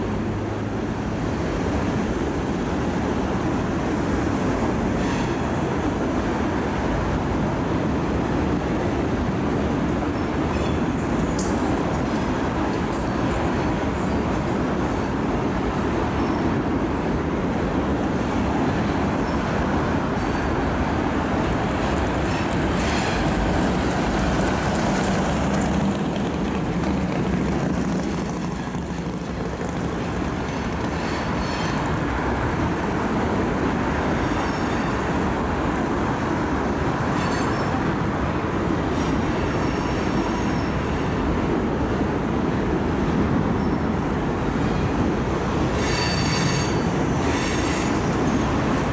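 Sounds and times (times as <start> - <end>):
railroad cars rumbling past: 0.0 - 48.9.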